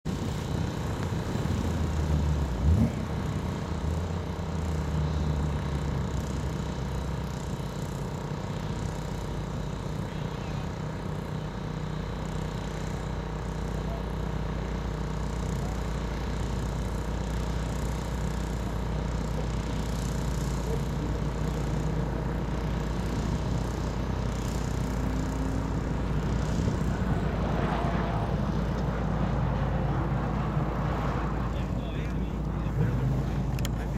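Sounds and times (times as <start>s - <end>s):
car engine running: 0.0s - 33.9s
road noise: 0.0s - 33.9s.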